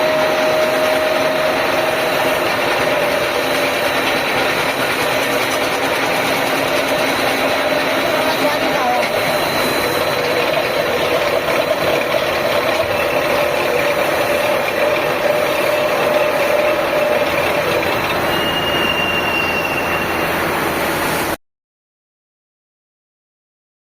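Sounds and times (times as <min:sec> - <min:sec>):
machine running: 0:00.0 - 0:21.4
machine whining: 0:00.0 - 0:21.4.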